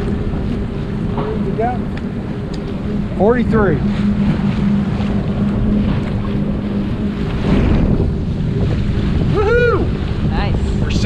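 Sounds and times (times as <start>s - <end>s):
boat motor humming: 0.0s - 11.0s
water rushing past a hull: 0.0s - 11.0s
wind buffeting microphone: 0.0s - 11.0s.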